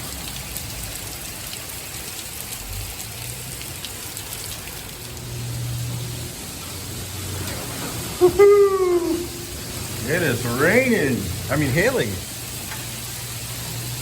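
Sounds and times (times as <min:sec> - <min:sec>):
hail falling: 0:00.0 - 0:14.0.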